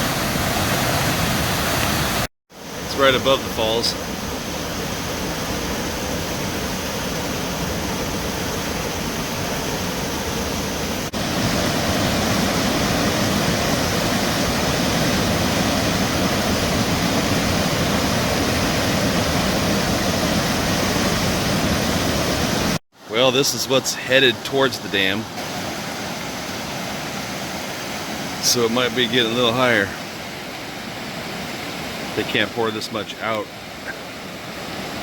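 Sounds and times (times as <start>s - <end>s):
river rushing over waterfall: 0.0s - 35.0s.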